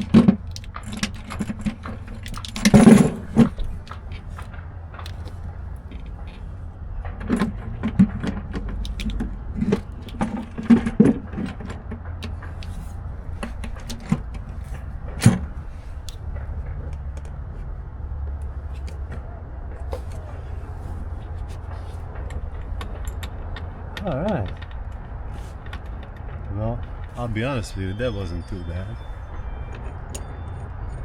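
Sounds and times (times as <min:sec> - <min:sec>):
metal clinks and knocks: 0:00.0 - 0:31.0
steady low hum: 0:00.0 - 0:31.0.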